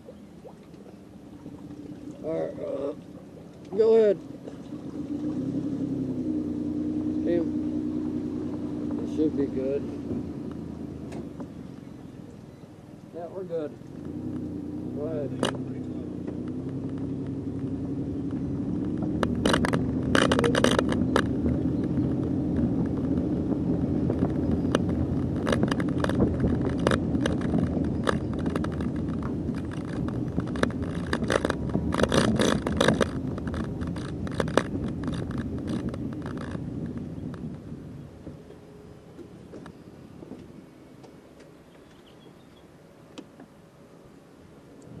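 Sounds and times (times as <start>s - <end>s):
engine running under load: 4.0s - 45.0s.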